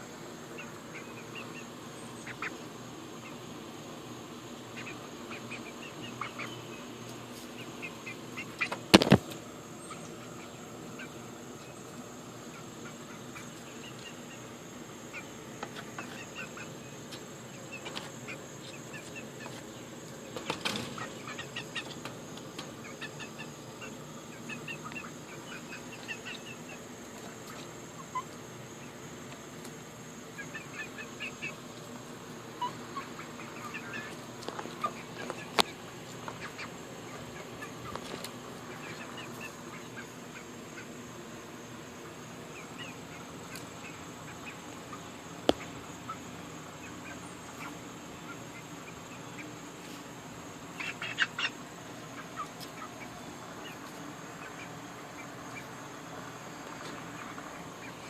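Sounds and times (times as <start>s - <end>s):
chirping bird calls: 0.0s - 58.0s
steady high hiss: 0.0s - 58.0s.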